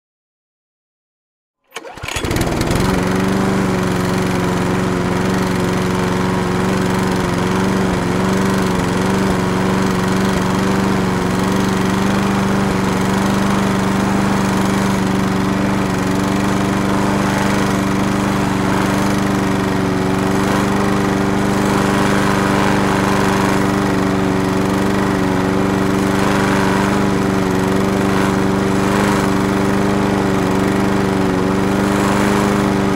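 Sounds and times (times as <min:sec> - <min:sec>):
lawn mower engine running: 0:01.7 - 0:32.9.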